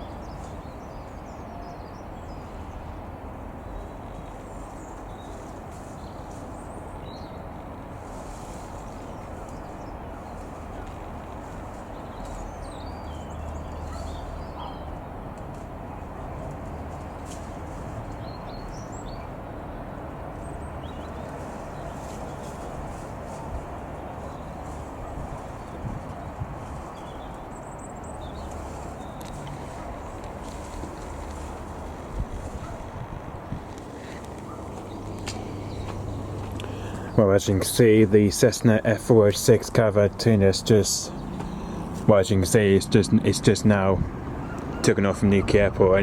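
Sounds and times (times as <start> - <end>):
low outdoor rumble: 0.0 - 46.0
small birds chirping: 0.0 - 46.0.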